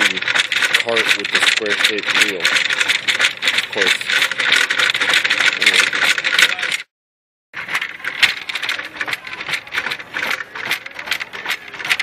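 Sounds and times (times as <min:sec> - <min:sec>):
shopping cart wheel clattering: 0:00.0 - 0:06.9, 0:07.6 - 0:12.0.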